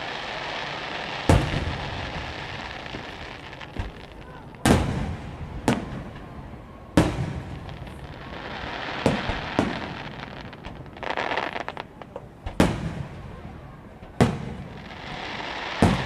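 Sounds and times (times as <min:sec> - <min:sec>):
crackling fireworks pops: 0:00.0 - 0:16.0
fireworks booming: 0:00.0 - 0:16.0.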